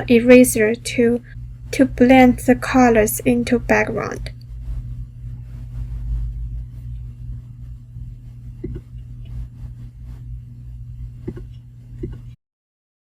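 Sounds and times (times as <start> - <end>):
low electrical hum: 0.0 - 12.4.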